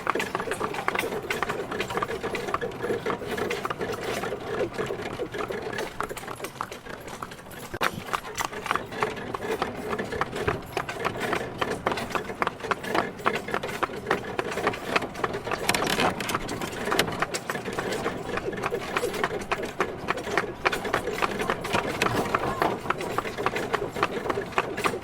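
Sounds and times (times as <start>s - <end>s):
horse hooves clopping: 0.0s - 25.0s.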